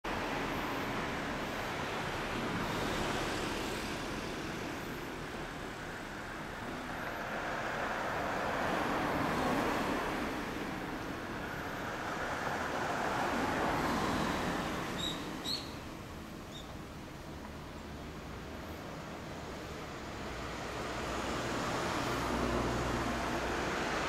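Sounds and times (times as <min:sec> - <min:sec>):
cars passing by: 0:00.0 - 0:24.0.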